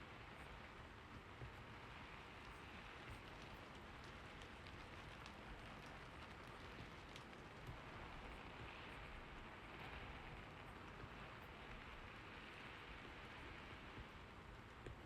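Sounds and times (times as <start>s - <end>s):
faint steady rain: 0.0s - 15.0s
raindrop ticks: 0.2s - 15.0s.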